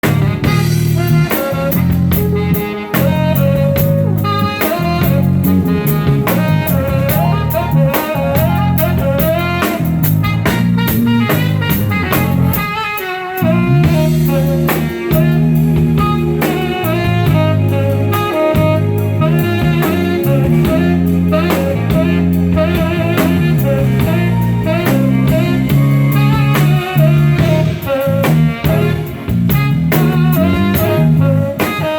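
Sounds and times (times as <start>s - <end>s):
bass: 0.0s - 31.9s
drum kit: 0.0s - 31.9s
lead melody line: 0.0s - 31.9s.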